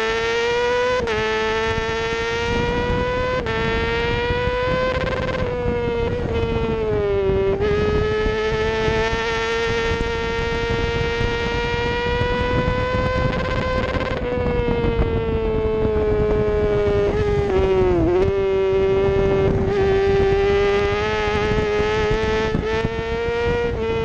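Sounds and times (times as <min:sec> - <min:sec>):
racing motorcycle engine revving: 0:00.0 - 0:24.0
wind noise: 0:00.0 - 0:24.0.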